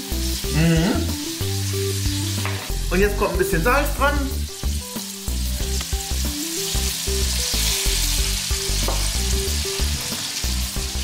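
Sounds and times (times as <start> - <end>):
background music with bass line: 0.0 - 11.0
shrimp sizzling in oil: 0.0 - 11.0.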